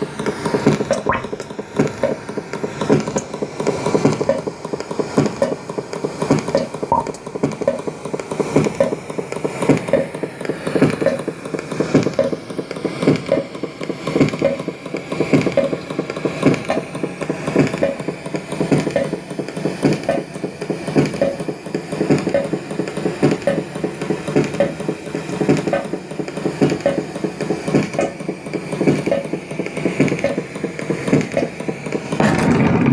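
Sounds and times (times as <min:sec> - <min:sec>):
mechanical grinding: 0:00.0 - 0:32.9
mechanical knocking: 0:00.0 - 0:32.9.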